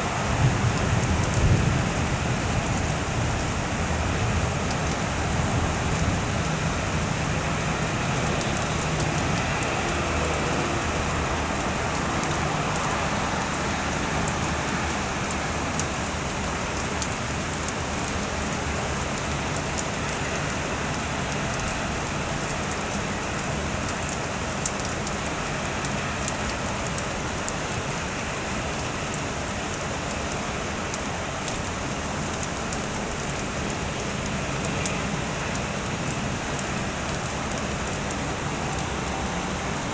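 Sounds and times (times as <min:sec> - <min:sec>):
rain falling steadily: 0:00.0 - 0:39.9
raindrops tapping on surfaces: 0:00.0 - 0:39.9.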